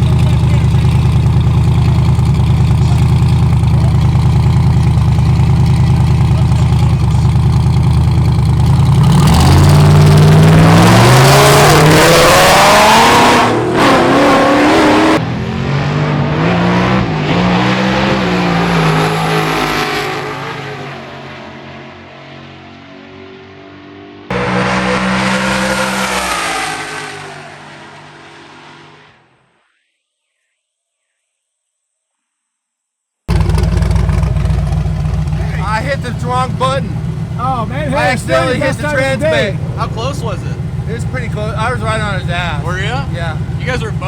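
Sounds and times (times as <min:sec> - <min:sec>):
car engines accelerating hard: 0:00.0 - 0:29.2, 0:33.3 - 0:44.0.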